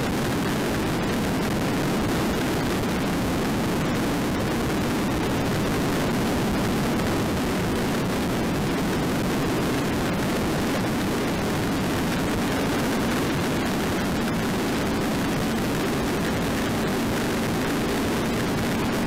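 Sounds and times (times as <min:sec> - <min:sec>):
low engine drone: 0:00.0 - 0:19.0
wind and road noise: 0:00.0 - 0:19.0.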